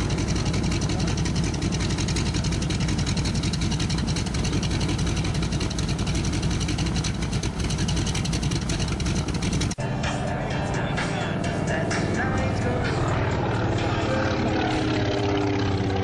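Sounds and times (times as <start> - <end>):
radial aircraft engine running: 0.0 - 16.0.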